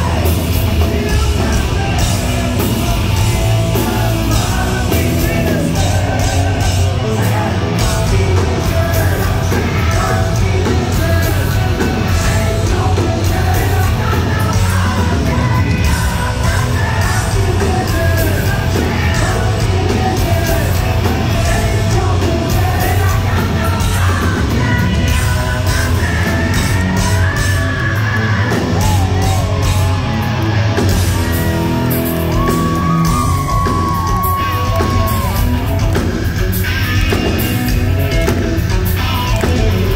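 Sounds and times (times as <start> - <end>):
singer shouting and singing: 0.0 - 35.8
live hard rock band: 0.0 - 39.9.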